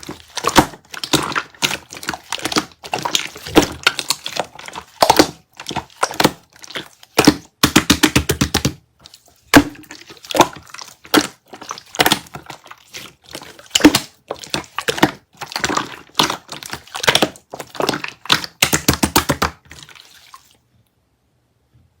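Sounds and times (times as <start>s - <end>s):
slime popping and crackling: 0.0s - 8.8s, 9.5s - 20.0s.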